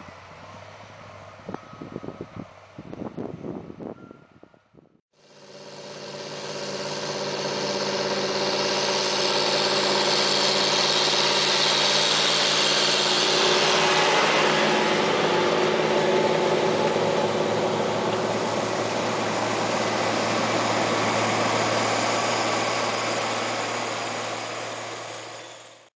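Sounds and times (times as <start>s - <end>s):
tractor diesel engine under load: 0.0s - 3.9s, 5.2s - 25.9s.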